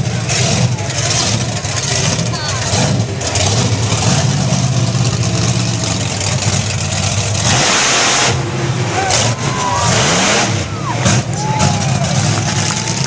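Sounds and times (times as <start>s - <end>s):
loud rush of noise: 0.0s - 13.0s
truck engine revving: 0.0s - 13.0s.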